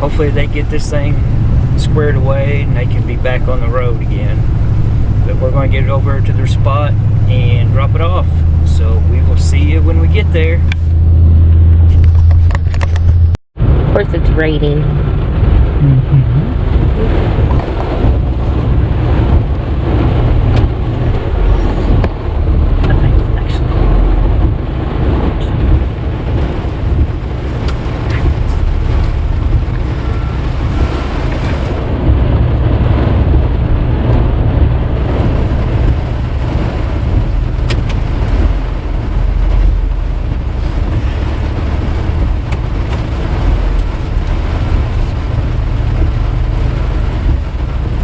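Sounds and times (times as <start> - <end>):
rain and road noise: 0.0 - 48.0
truck engine and road rumble: 0.0 - 48.0.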